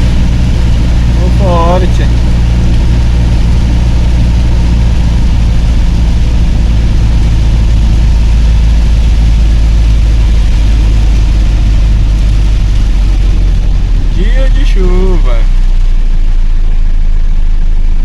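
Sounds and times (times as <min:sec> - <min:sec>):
tyres hissing on wet road: 0:00.0 - 0:17.9
vehicle engine droning: 0:00.0 - 0:18.0.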